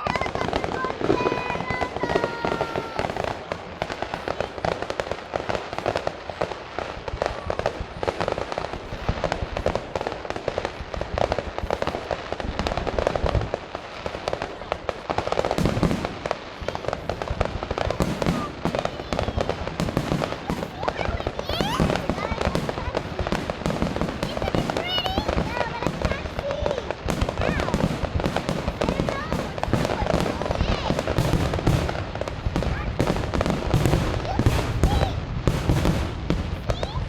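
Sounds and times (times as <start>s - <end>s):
fireworks bangs and crackles: 0.0s - 37.0s
heavy firework booms: 0.0s - 37.0s.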